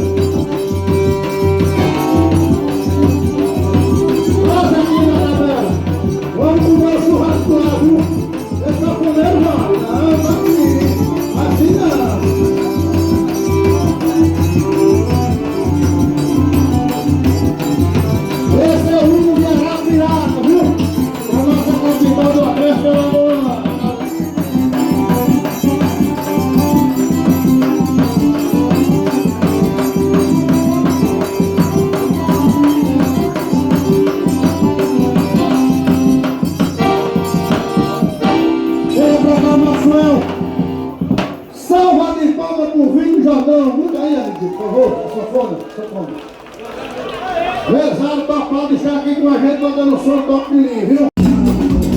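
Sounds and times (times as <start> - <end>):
accordion melody: 0.0 - 41.6, 51.2 - 51.9
steady drum beat: 0.0 - 41.6, 51.2 - 51.9
rattling percussion: 0.0 - 43.4, 51.2 - 51.9.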